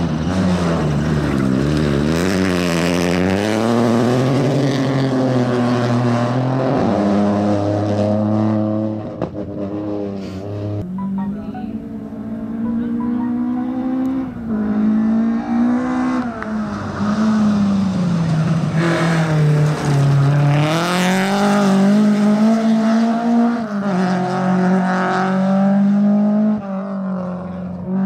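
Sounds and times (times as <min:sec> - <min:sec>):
rally car engine revving: 0:00.0 - 0:11.1, 0:11.7 - 0:28.0.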